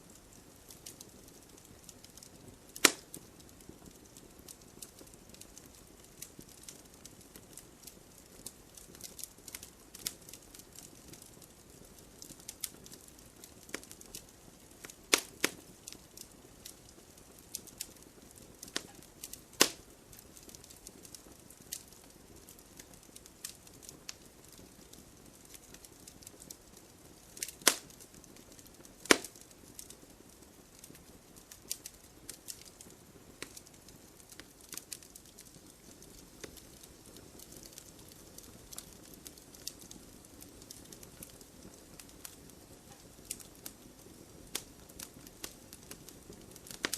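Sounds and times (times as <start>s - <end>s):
campfire crackling: 0.0s - 46.9s
faint steady hiss: 0.0s - 46.9s
sharp fire pops: 0.1s - 11.2s, 12.2s - 21.9s, 27.3s - 43.8s, 44.4s - 46.9s.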